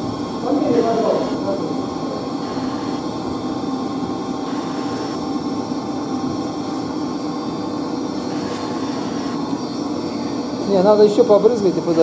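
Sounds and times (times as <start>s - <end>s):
faint high whine: 0.0s - 12.0s
heating plant machinery hum: 0.0s - 12.0s.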